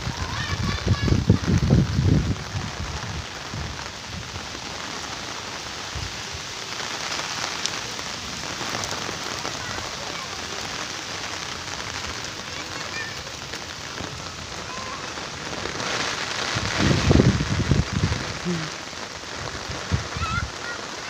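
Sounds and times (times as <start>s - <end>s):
rain falling on puddles: 0.0s - 21.0s.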